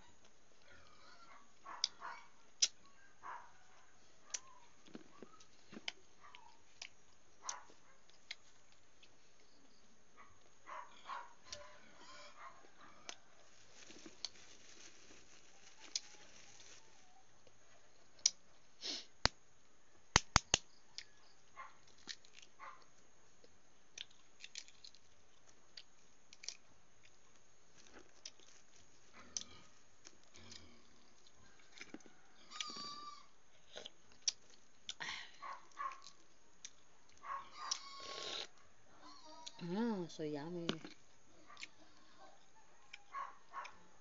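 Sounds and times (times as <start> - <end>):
close chewing and mouth sounds: 0.2 - 16.8, 17.4 - 18.6, 20.8 - 40.0, 40.6 - 44.0.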